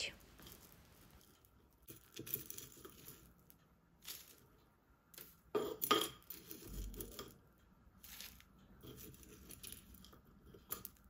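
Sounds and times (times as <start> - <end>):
objects rustling and clicking: 0.2 - 7.4, 8.0 - 11.0.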